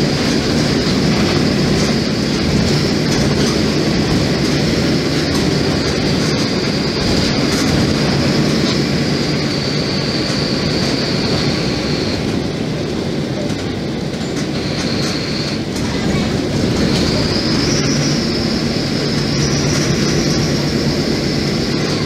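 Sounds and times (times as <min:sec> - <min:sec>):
bus engine drone: 0:00.0 - 0:22.0
high steady whine: 0:00.0 - 0:22.0
road rumble: 0:00.0 - 0:22.0.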